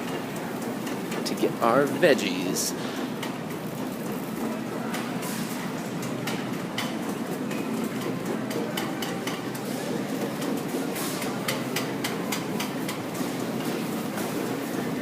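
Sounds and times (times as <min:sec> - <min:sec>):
shopping cart rattling: 0:00.0 - 0:15.0
store background hum: 0:00.0 - 0:15.0.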